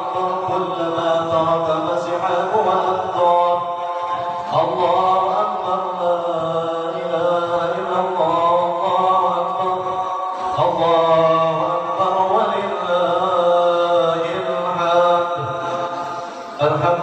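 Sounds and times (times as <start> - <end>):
man chanting a prayer: 0.0 - 17.0.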